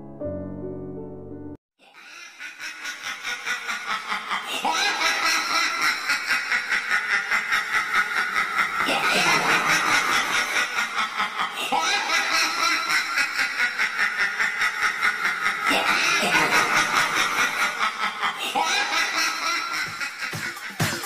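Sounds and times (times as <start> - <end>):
spooky cackling laugh: 1.8 - 21.0.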